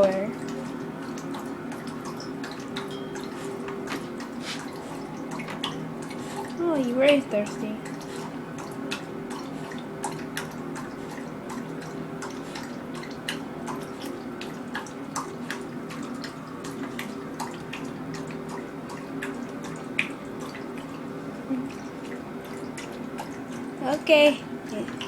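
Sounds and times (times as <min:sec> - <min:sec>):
dog lapping water: 0:00.0 - 0:25.0.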